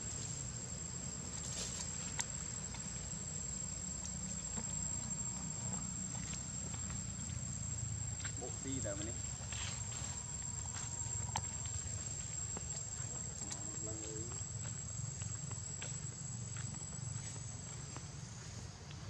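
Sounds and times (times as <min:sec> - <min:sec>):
high-pitched insect drone: 0:00.0 - 0:18.6.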